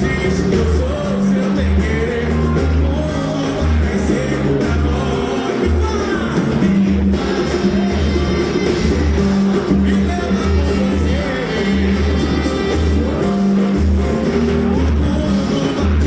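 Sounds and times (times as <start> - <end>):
band playing a song: 0.0 - 16.0
bass line: 0.0 - 16.0
person singing: 0.0 - 16.0.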